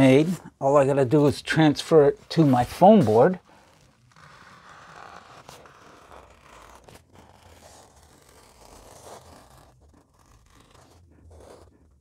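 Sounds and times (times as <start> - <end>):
pencil scratching on foam board: 1.1 - 12.0.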